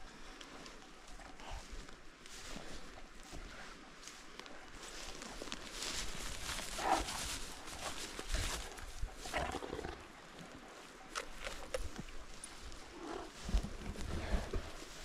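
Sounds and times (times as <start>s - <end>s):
rustling grass: 0.0s - 15.0s
wind: 0.0s - 15.0s.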